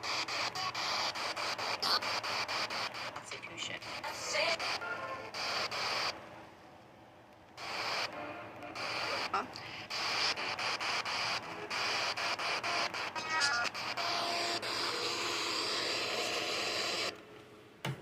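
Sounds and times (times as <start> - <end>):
radio static hiss: 0.0 - 6.2, 7.6 - 17.2
static crackles: 0.0 - 6.3, 7.3 - 17.2.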